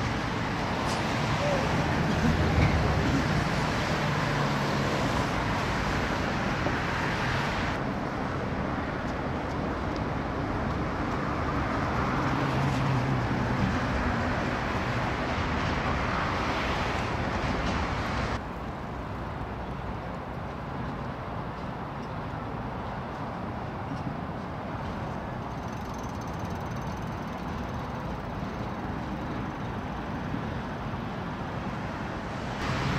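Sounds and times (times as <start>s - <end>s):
city traffic rumble and hiss: 0.0s - 32.9s.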